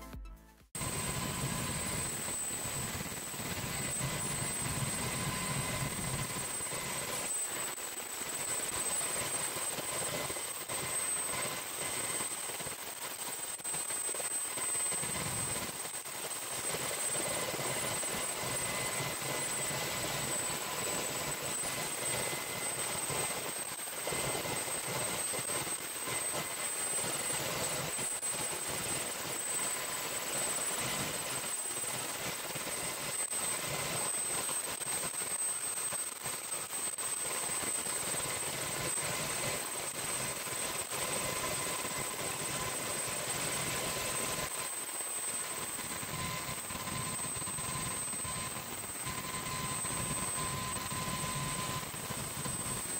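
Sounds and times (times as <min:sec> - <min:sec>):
helicopter rotor rushing: 0:00.8 - 0:52.9
high turbine whine: 0:00.8 - 0:52.9.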